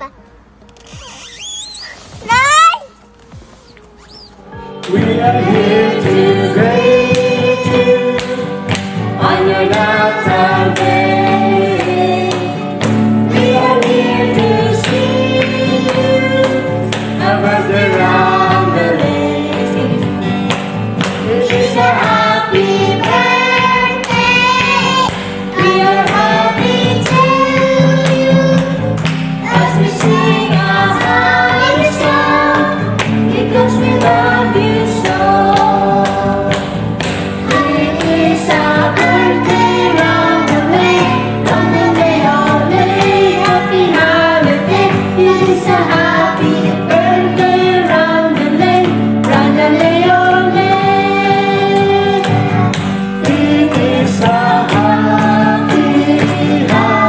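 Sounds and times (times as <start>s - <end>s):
women and girls singing: 4.6s - 20.4s, 21.2s - 57.0s
strummed acoustic guitar: 4.6s - 57.0s
hand claps: 4.8s - 5.1s, 6.0s - 57.0s.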